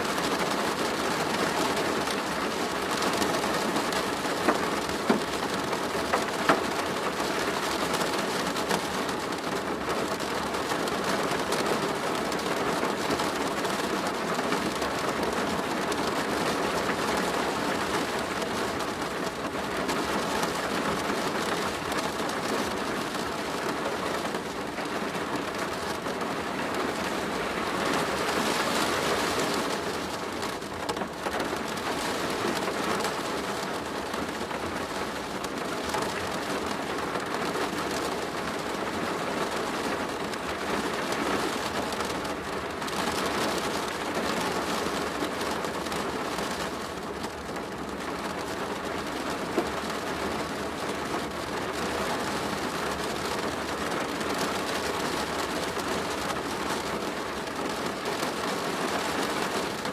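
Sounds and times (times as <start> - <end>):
rain on a plastic roof: 0.0 - 59.9.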